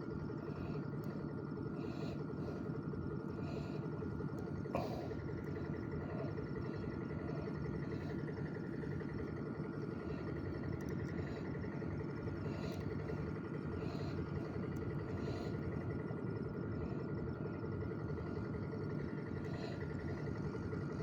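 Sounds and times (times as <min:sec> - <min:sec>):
engine drone: 0:00.0 - 0:21.0
faint whine: 0:00.0 - 0:21.0.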